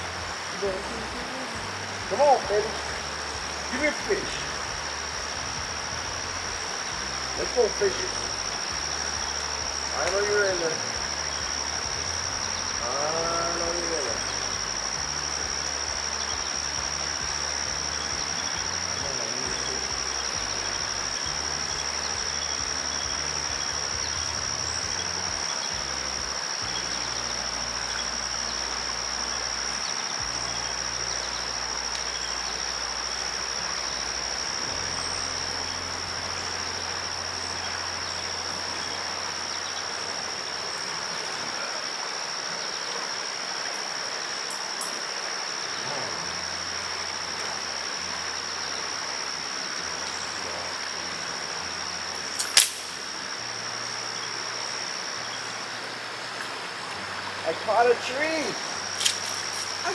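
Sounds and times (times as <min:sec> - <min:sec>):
insects droning: 0:00.0 - 0:59.9
river rapids rushing: 0:00.0 - 0:59.9.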